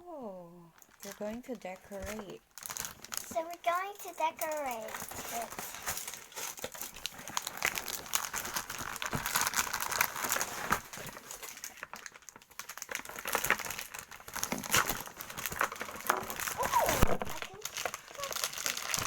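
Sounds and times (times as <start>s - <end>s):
plastic packaging crinkling: 0.8s - 19.0s.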